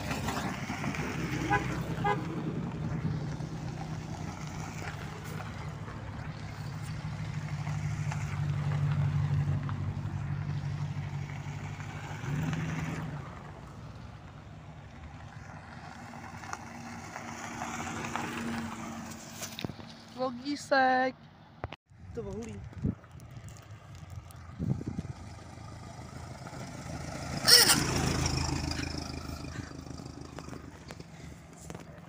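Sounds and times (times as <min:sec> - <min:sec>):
second car engine passing: 0:00.0 - 0:19.6, 0:24.4 - 0:32.0
car engine rolling past on gravel: 0:00.0 - 0:20.2, 0:21.9 - 0:32.0.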